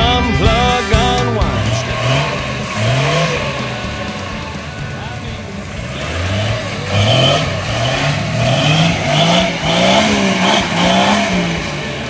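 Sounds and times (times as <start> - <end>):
engine revving: 0.0 - 12.0
vehicle churning through mud: 0.6 - 12.0.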